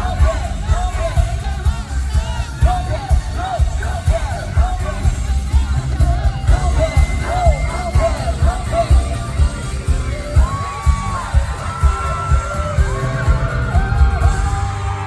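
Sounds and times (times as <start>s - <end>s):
heavy pounding bass beat: 0.0s - 15.0s
person singing live: 0.0s - 15.0s.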